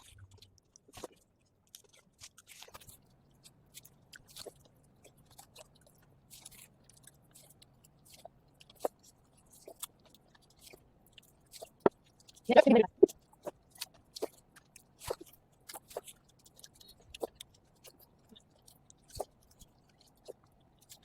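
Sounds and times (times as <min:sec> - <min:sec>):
wet chewing and mouth smacks: 0:00.0 - 0:21.0.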